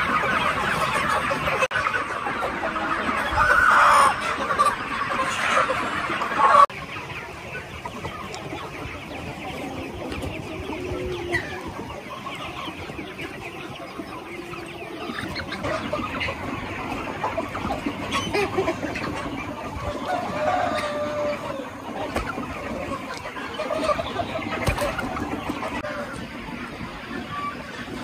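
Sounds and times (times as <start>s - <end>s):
young chickens clucking: 0.0s - 28.0s.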